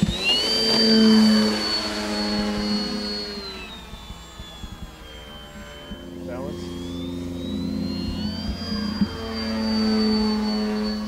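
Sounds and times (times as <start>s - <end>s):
electric motor whine: 0.0s - 11.0s
propeller hum: 0.0s - 11.0s.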